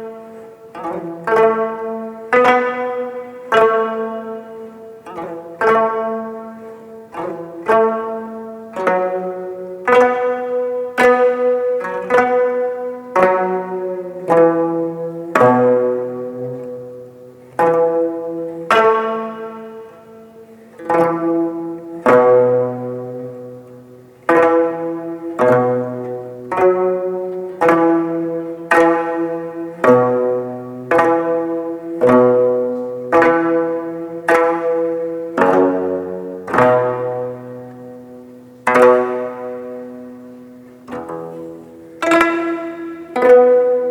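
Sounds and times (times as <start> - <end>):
plucked zither ensemble: 0.0 - 43.9.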